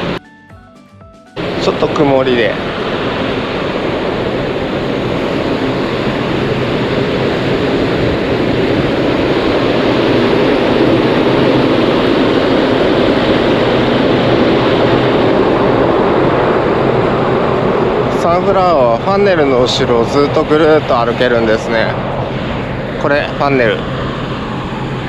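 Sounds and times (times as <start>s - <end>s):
ship machinery roar: 0.0s - 0.2s, 1.4s - 25.0s.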